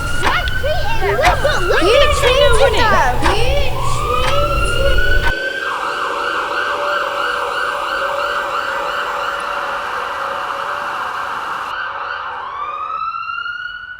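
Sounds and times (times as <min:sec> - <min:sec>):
siren wailing and warbling: 0:00.0 - 0:13.9.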